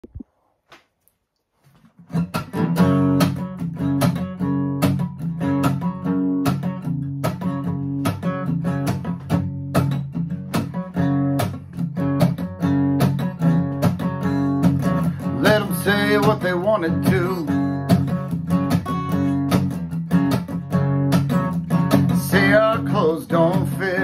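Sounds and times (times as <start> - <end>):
acoustic guitar strumming: 2.1 - 24.0.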